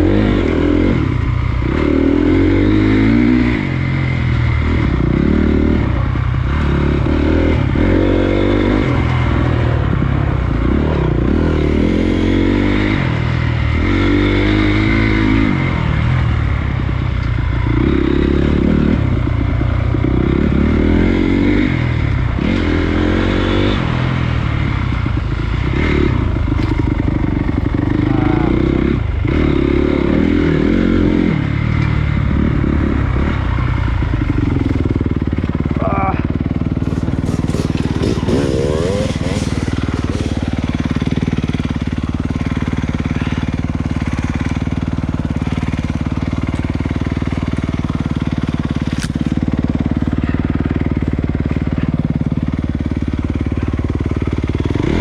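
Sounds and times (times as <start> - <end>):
dirt bike engine revving: 0.0 - 16.8, 17.6 - 55.0.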